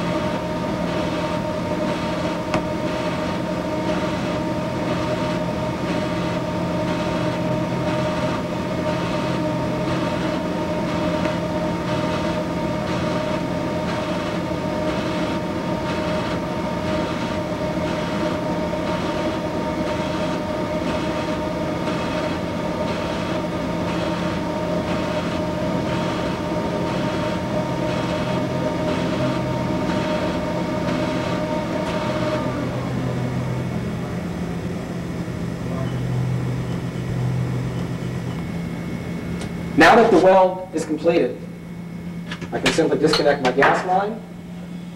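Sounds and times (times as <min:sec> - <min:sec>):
welding arc hissing and whining: 0:00.0 - 0:44.8.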